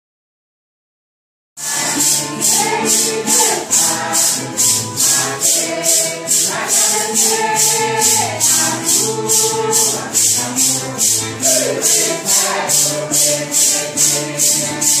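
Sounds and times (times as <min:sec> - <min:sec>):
maracas shaking: 0:01.6 - 0:15.0
voices singing a hymn: 0:01.6 - 0:15.0.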